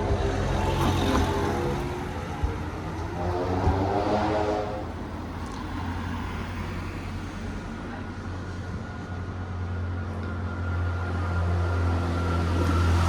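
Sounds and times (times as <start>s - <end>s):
town street noise: 0.0s - 13.0s
vehicle engine humming: 0.0s - 13.0s.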